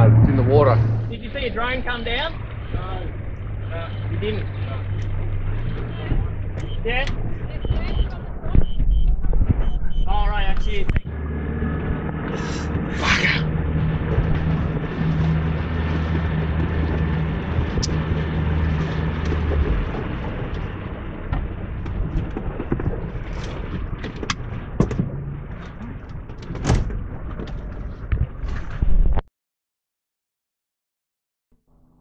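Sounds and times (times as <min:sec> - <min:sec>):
outboard engine running: 0:00.0 - 0:29.0
rushing wind and water: 0:00.0 - 0:29.2.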